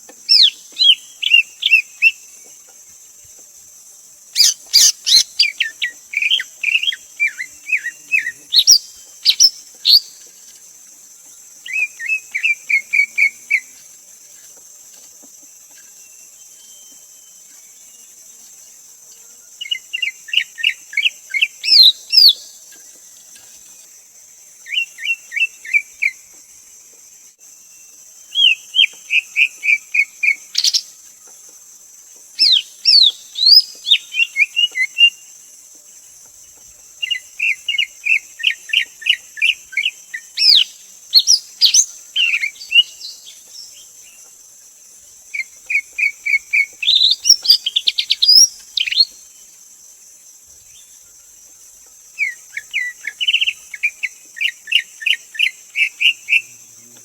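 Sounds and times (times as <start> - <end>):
bird singing: 0.0 - 2.9, 4.2 - 35.4, 36.1 - 49.7, 50.6 - 57.0
high insect buzz: 0.0 - 57.0.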